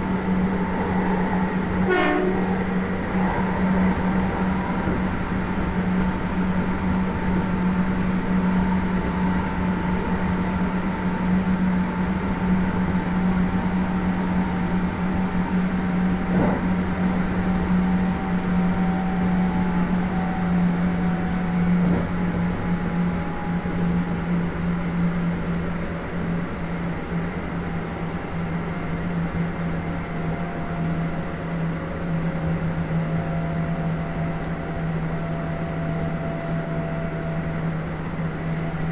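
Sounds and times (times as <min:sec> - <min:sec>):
electric train low hum: 0:00.0 - 0:38.9.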